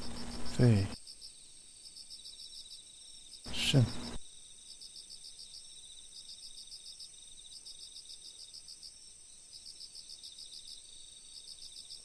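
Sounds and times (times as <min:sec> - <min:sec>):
crickets chirping: 0:00.0 - 0:12.0
steady high-pitched insect trill: 0:00.0 - 0:12.0.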